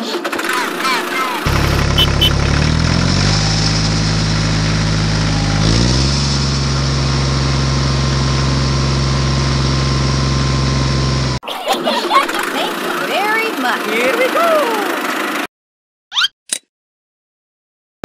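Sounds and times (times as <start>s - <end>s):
tractor engine idling: 0.1s - 11.4s, 12.2s - 15.4s.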